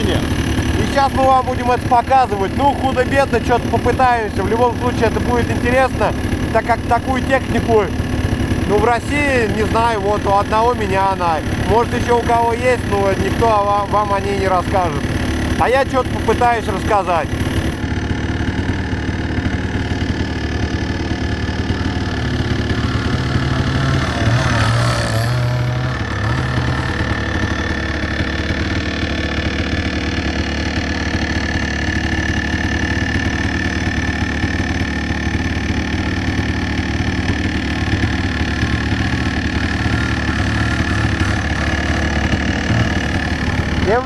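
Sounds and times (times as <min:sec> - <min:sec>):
motorcycle engine idling: 0:00.0 - 0:44.0.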